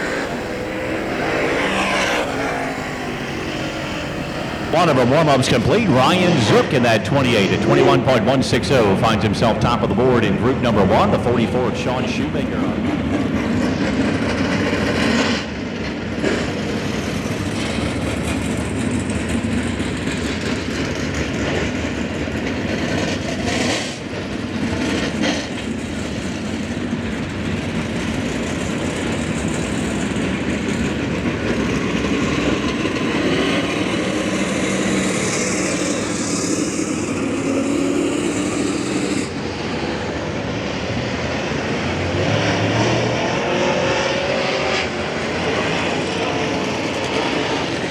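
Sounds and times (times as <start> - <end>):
race car engines at speed: 0.0 - 47.9.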